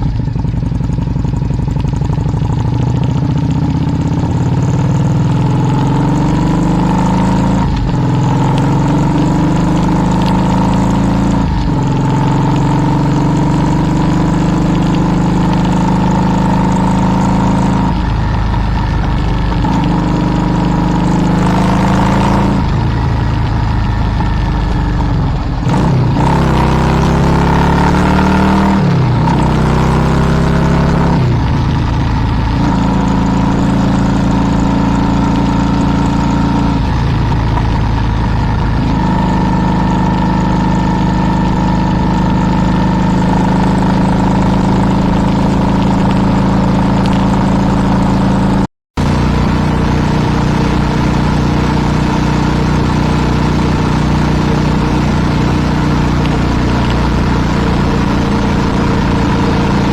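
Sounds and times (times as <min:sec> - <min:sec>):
vehicle engine accelerating: 0:00.0 - 0:59.9.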